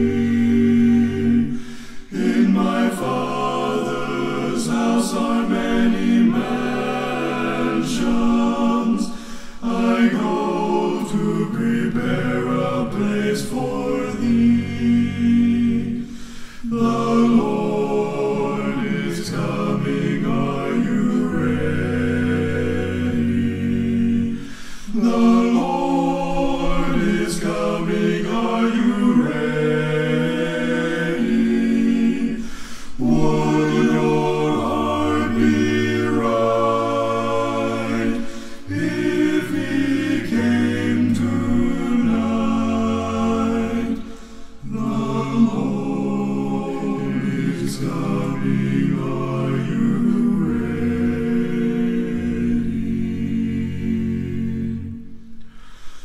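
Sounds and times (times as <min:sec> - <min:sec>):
male vocal group singing a cappella: 0:00.0 - 0:56.0.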